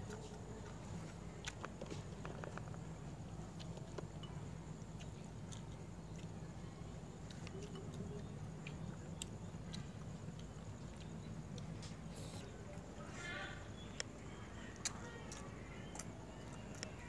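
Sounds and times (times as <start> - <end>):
faint chewing: 0.0 - 17.0
steady low hum: 0.0 - 17.0.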